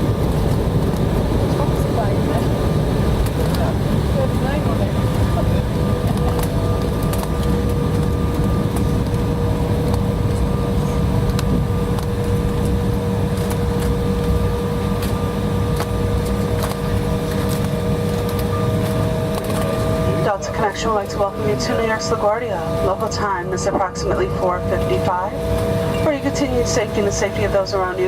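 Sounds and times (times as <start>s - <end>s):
airliner cabin low rumble: 0.0s - 28.0s
steady whine: 0.0s - 28.0s.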